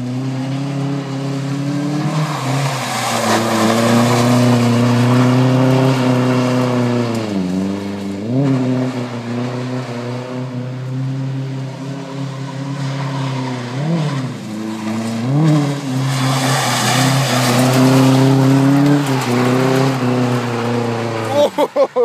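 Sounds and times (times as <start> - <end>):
car engine at high revs: 0.0 - 22.0
tyres spinning on wet pavement: 0.0 - 22.0.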